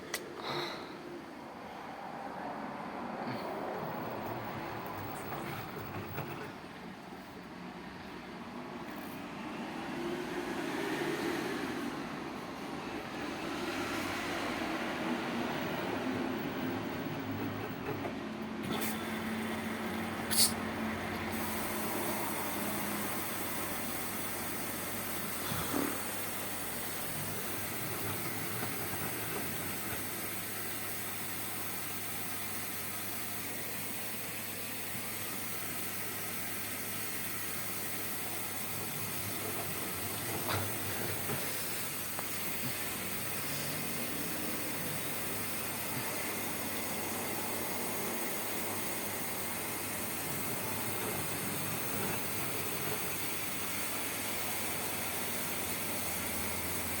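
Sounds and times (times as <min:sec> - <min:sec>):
washing machine running: 0:01.1 - 0:57.0.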